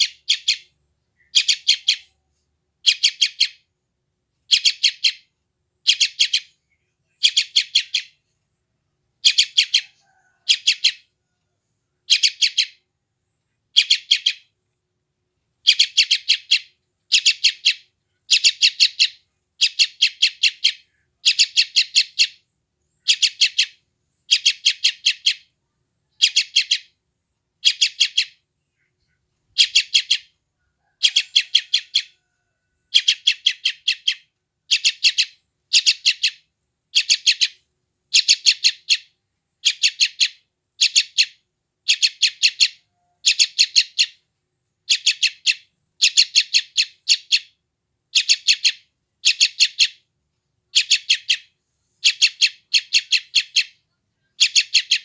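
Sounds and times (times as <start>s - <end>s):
bird chick begging calls: 0.0s - 2.2s, 2.8s - 3.6s, 4.5s - 8.2s, 9.2s - 11.1s, 12.1s - 12.8s, 13.7s - 14.5s, 15.6s - 22.4s, 23.0s - 25.5s, 26.1s - 27.0s, 27.6s - 28.4s, 29.5s - 44.2s, 44.8s - 50.0s, 50.7s - 55.0s.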